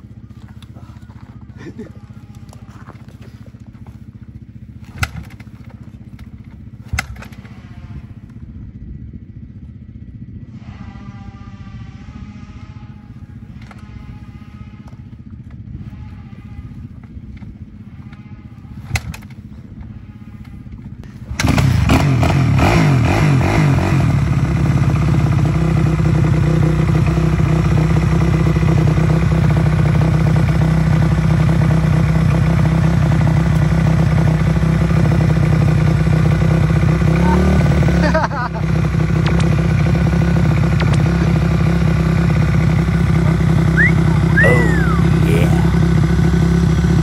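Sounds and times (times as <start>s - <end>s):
dirt bike engine idling: 0.0s - 47.0s.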